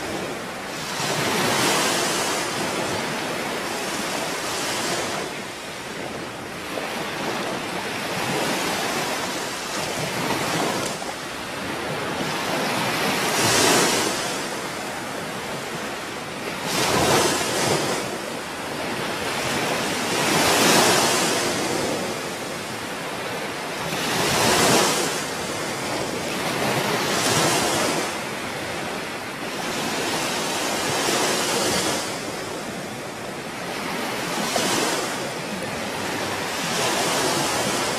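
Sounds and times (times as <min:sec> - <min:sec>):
waves washing onto shore: 0:00.0 - 0:37.9.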